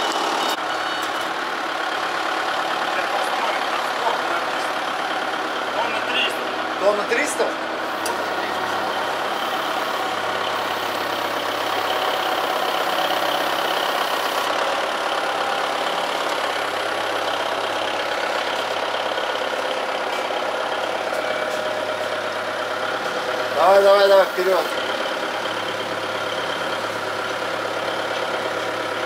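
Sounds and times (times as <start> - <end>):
pallet stacker machine hum: 0.0 - 29.0.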